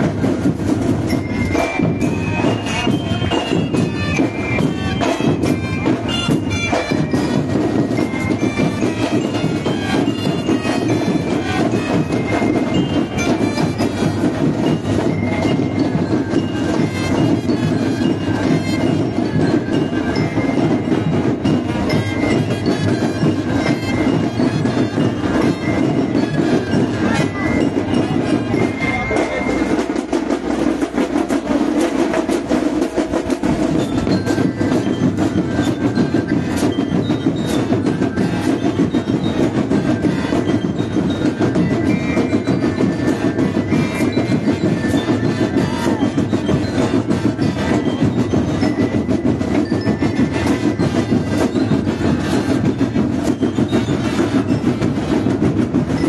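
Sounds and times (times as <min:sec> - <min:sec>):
marching band playing: 0:00.0 - 0:56.0
rattling drum beat: 0:00.0 - 0:56.0.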